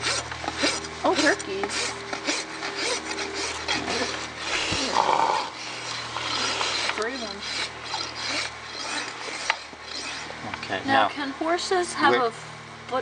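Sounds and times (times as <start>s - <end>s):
rasp filing hoof: 0.0s - 10.4s.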